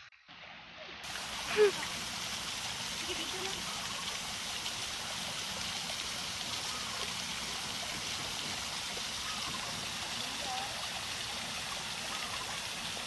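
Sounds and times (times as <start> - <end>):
waterfall splashing into pool: 0.0 - 13.0.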